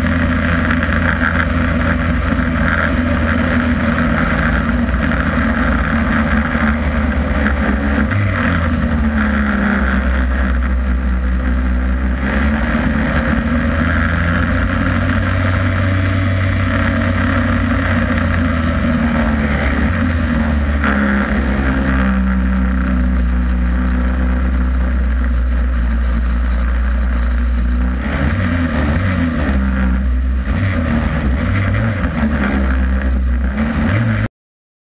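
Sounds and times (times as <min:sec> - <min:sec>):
stock car engine revving: 0:00.0 - 0:34.3.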